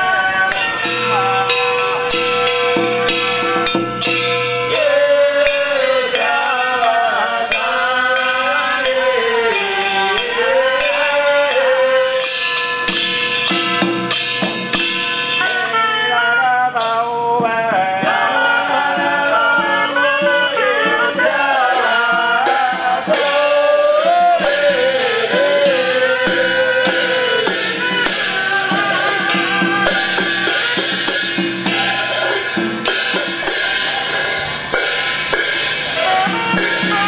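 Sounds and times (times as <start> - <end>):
drum and cymbal percussion: 0.0 - 37.0.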